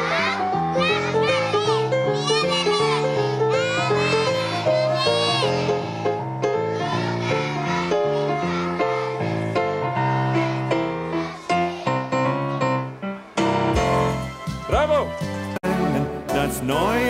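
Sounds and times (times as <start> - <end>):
keyboard melody: 0.0 - 17.0.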